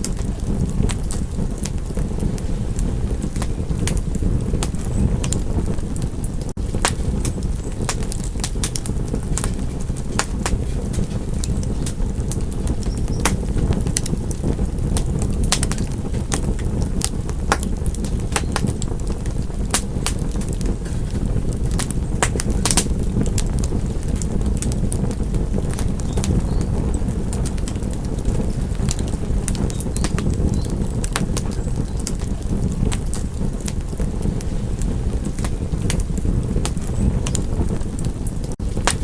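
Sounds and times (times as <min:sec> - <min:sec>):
low rumble: 0:00.0 - 0:39.0
wood fire crackling: 0:00.0 - 0:39.0.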